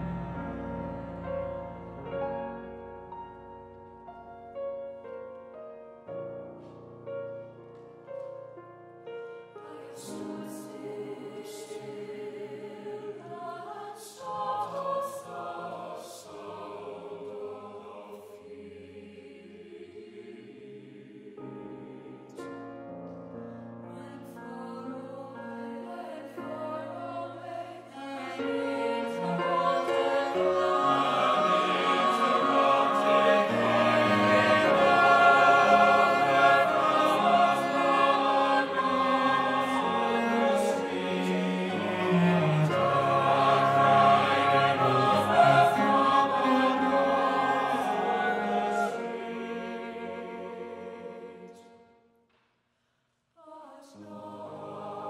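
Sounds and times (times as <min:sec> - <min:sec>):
choir singing: 0:00.0 - 0:04.0, 0:09.5 - 0:22.6, 0:23.9 - 0:52.0, 0:53.4 - 0:55.0
cello: 0:00.0 - 0:05.4, 0:09.1 - 0:22.7, 0:23.4 - 0:51.8
piano: 0:00.0 - 0:52.0.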